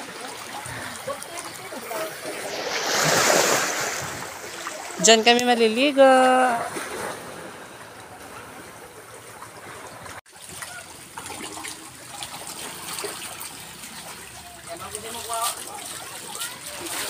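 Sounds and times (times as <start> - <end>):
water lapping on pebbly shore: 0.0 - 7.5, 9.0 - 17.0
splashing of wading: 0.0 - 17.0.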